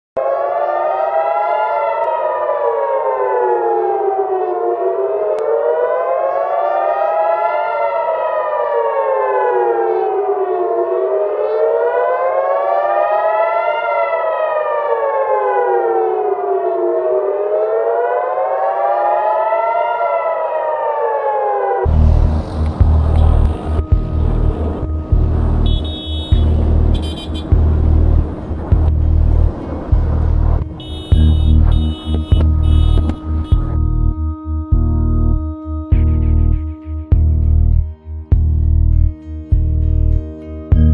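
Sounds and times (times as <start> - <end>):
air-raid siren wailing: 0.2 - 37.1.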